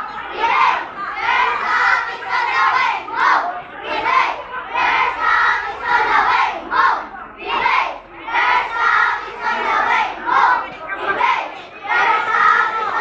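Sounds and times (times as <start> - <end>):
children shouting a cheer: 0.0 - 13.0.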